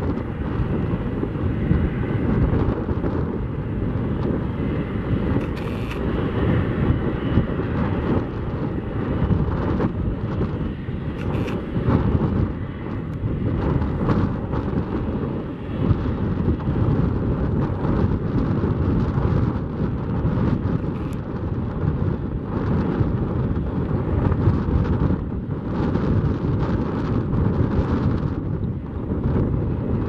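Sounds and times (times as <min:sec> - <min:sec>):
jet engines rumbling at taxi: 0:00.0 - 0:30.0.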